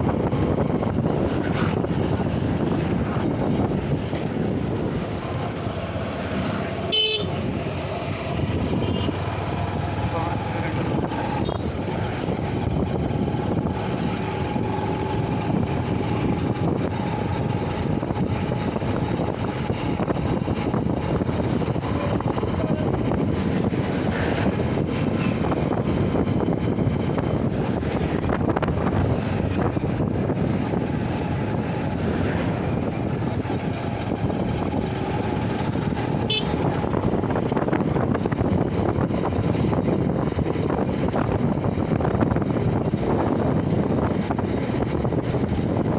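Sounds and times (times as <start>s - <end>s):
motorcycle engine running: 0.0s - 45.9s
road noise: 0.0s - 45.9s
wind rush: 0.0s - 45.9s.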